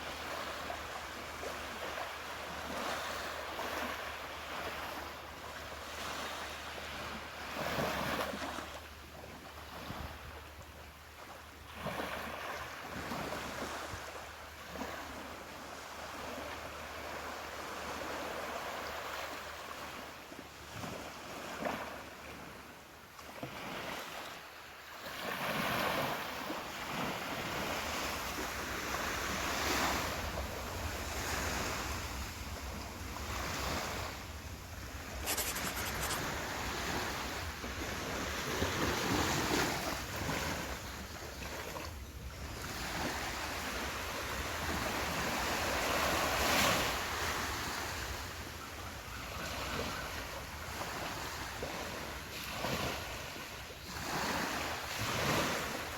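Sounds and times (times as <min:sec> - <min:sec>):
ocean waves breaking on beach: 0:00.0 - 0:55.9.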